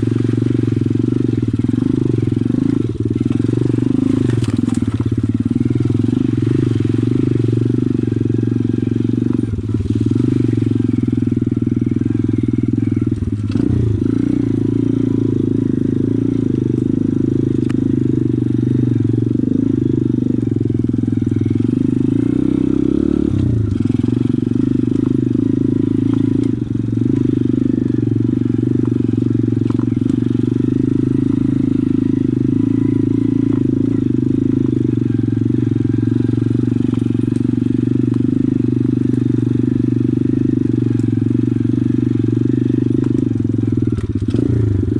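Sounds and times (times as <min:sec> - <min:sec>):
motorbike engine running: 0:00.0 - 0:44.9.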